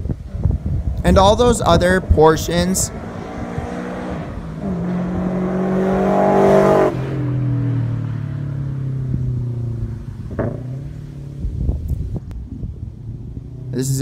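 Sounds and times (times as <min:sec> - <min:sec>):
car driving by: 0:00.3 - 0:11.8.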